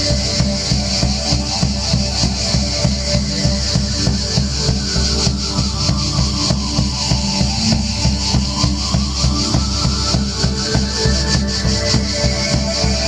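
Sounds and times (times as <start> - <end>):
instrumental music with drum beat: 0.0 - 13.0.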